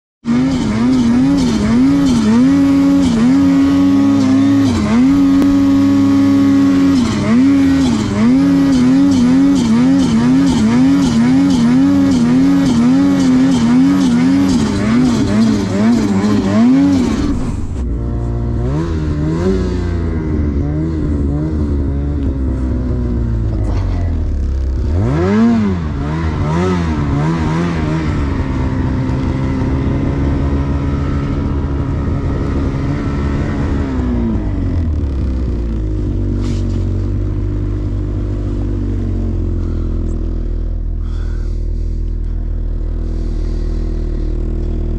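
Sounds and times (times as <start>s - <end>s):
snowmobile engine revving: 0.2s - 44.9s.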